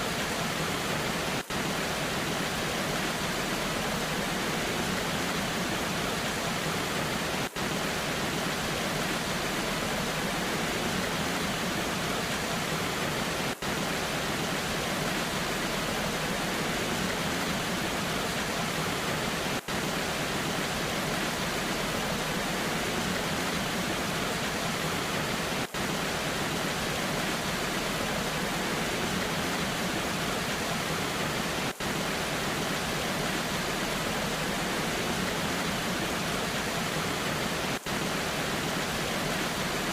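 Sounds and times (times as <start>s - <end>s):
rain: 0.0s - 39.9s
waterfall rushing: 0.0s - 39.9s.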